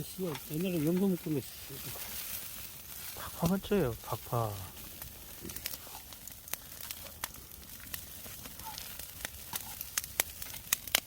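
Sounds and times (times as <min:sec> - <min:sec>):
meat grilling hiss: 0:00.0 - 0:11.0
wood fire crackling: 0:00.0 - 0:11.0.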